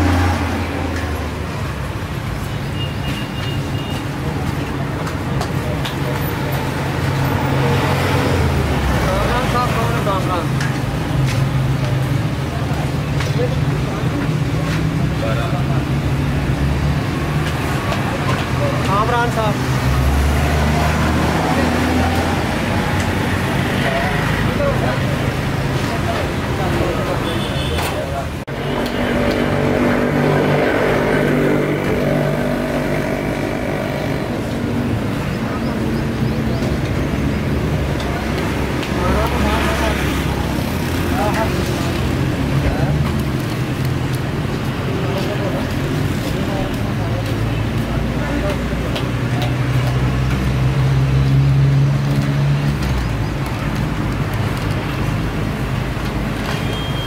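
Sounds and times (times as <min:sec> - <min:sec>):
road traffic: 0:00.0 - 0:57.0
street background noise: 0:00.0 - 0:57.0.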